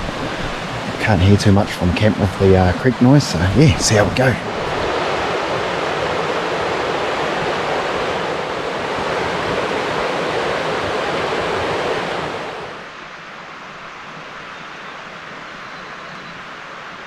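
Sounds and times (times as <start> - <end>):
creek rushing: 0.0 - 17.0.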